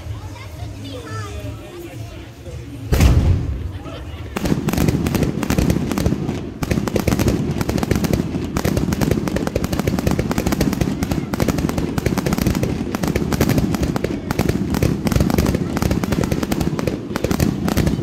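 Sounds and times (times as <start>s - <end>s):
fireworks crackling: 0.0s - 18.0s
fireworks pops and bangs: 2.9s - 3.7s, 4.3s - 18.0s.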